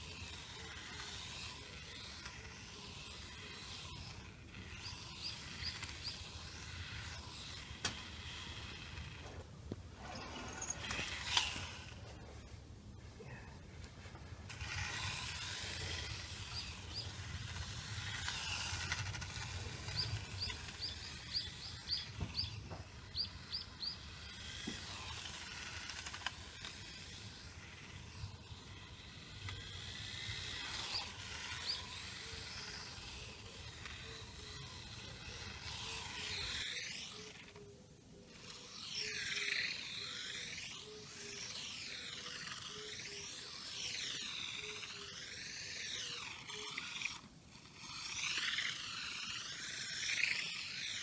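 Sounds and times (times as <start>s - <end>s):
small bird chirping: 0.0s - 9.0s, 10.0s - 12.5s, 14.6s - 51.0s.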